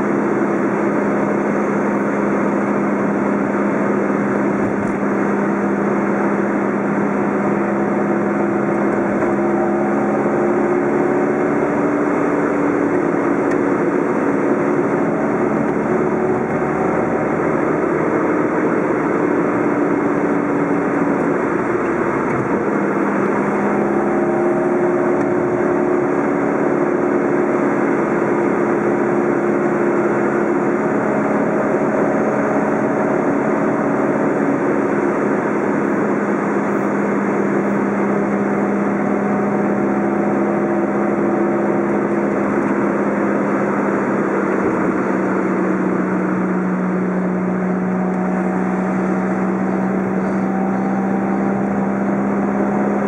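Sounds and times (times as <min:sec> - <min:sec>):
car engine drone: 0:00.0 - 0:53.0.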